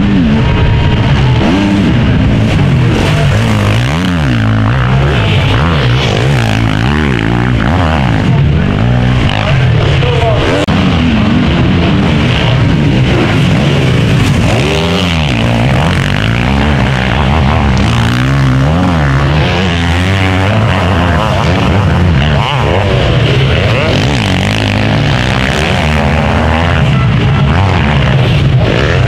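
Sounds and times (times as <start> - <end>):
motocross engines revving: 0.0 - 29.0.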